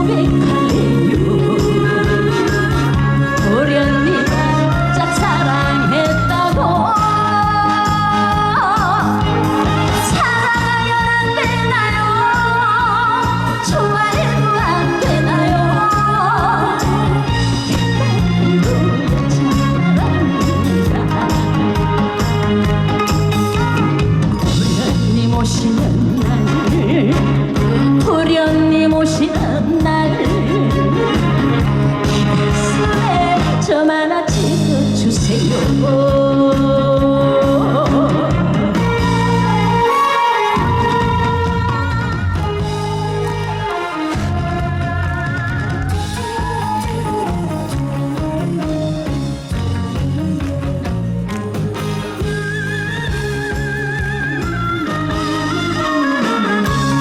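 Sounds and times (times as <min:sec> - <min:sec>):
woman singing with vibrato: 0:00.0 - 0:17.8, 0:24.5 - 0:49.3, 0:50.2 - 0:57.0
backing track with bass and drums: 0:00.0 - 0:39.9, 0:40.6 - 0:57.0
loud band accompaniment: 0:00.0 - 0:57.0.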